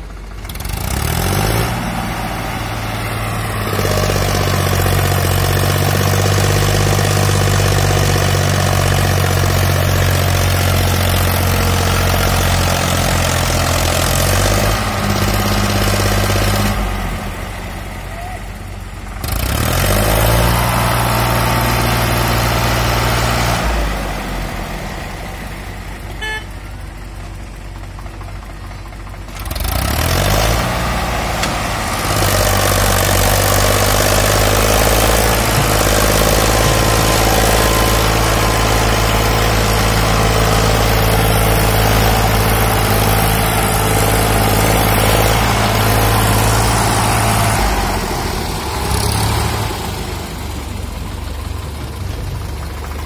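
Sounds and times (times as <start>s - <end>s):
tractor diesel engine working hard: 0.0s - 53.0s.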